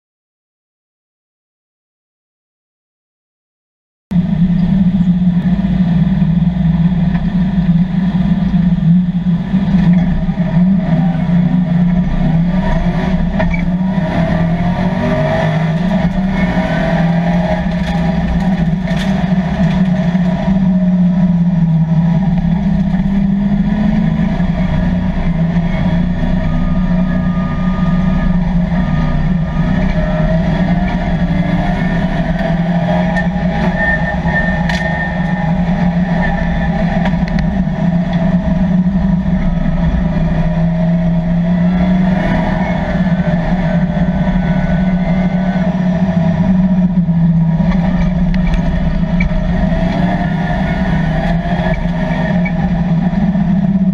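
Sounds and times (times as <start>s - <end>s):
race car engine drone: 4.1s - 53.9s.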